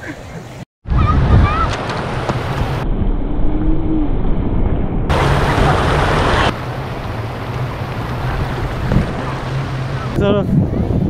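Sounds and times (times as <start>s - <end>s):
wind rushing over microphone: 0.8s - 11.0s
low engine hum: 1.3s - 11.0s.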